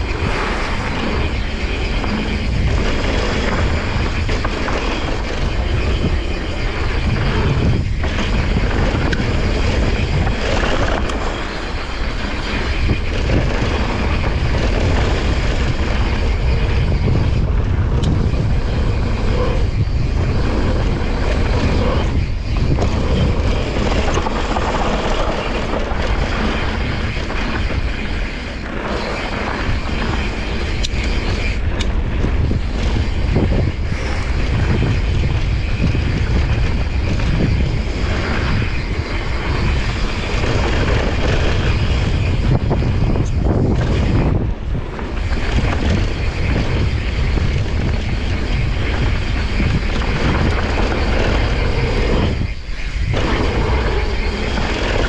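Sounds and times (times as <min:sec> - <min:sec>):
bike tyres rumbling on dirt: 0:00.0 - 0:55.0
wind rushing over microphone: 0:00.0 - 0:55.0.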